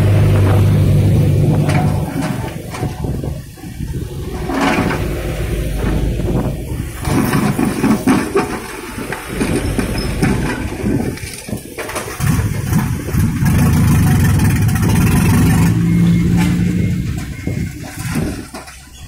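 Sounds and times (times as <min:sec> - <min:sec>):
bucket scraping through soil and rocks: 0:00.0 - 0:19.0
excavator diesel engine: 0:00.0 - 0:19.0.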